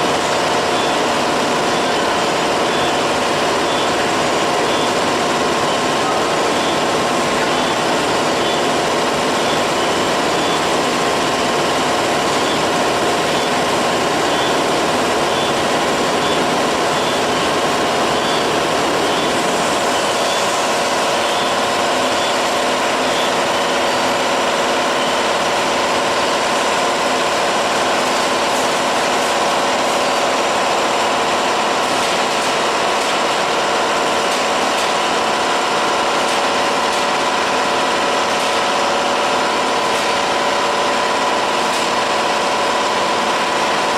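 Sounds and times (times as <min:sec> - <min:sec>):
packaging machine humming: 0:00.0 - 0:43.9.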